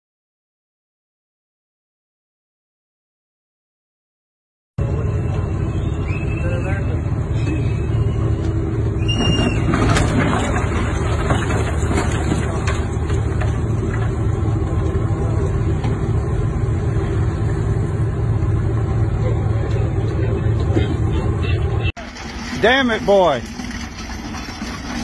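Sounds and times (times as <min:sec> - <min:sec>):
ship engine rumbling: 0:04.8 - 0:25.0.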